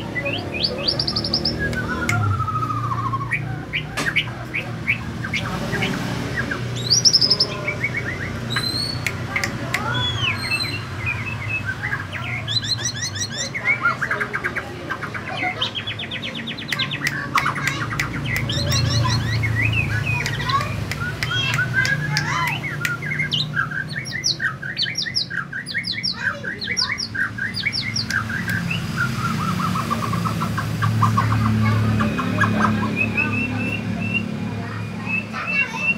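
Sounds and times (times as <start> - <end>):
songbird singing trills: 0.0 - 35.9.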